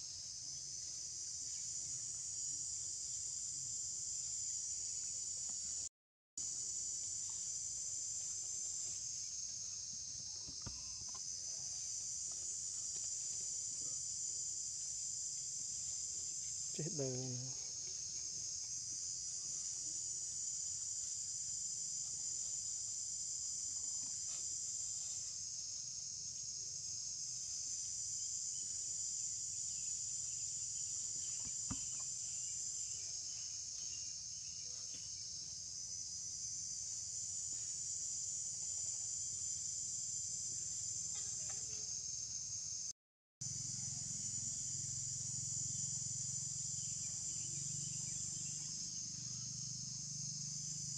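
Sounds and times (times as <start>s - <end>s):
insects buzzing: 0.0s - 50.9s.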